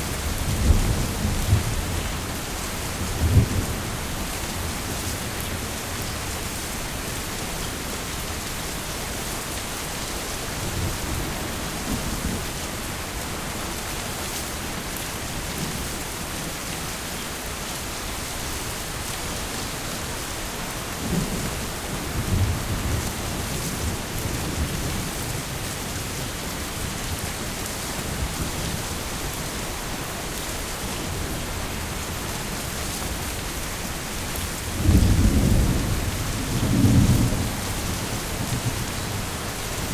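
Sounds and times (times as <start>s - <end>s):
thunder rumbling: 0.0s - 12.6s, 18.2s - 39.9s
heavy rain falling: 0.0s - 39.9s.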